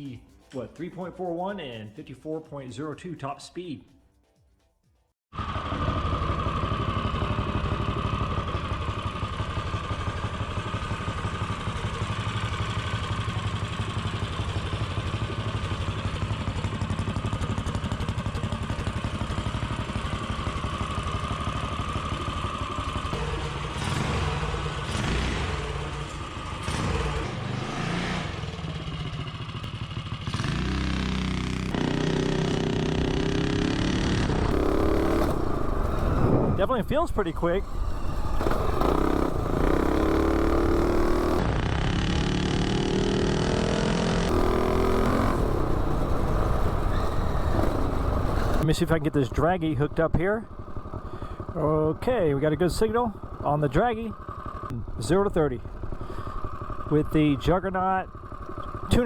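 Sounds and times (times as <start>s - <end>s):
minibike engine running: 5.4s - 59.0s.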